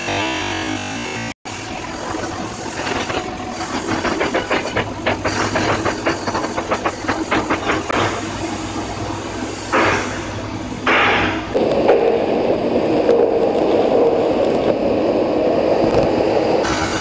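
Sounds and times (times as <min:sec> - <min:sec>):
arc welding sizzle and crackle: 0:00.0 - 0:17.0.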